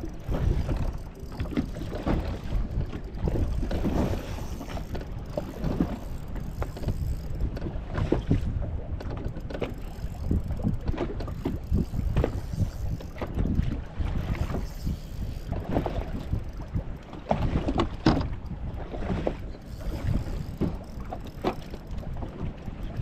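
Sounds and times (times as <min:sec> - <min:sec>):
water slapping against hull: 0:00.0 - 0:23.0
wind buffeting microphone: 0:00.0 - 0:23.0.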